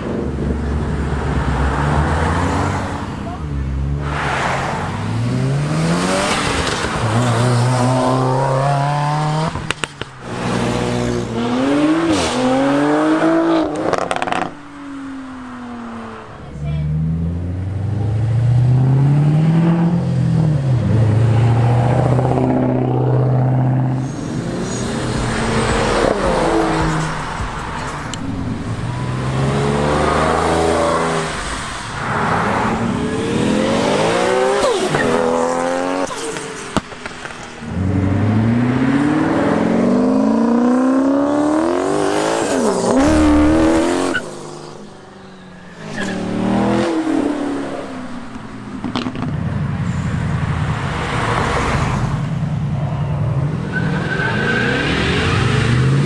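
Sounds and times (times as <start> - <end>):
cars accelerating hard: 0.0 - 56.0.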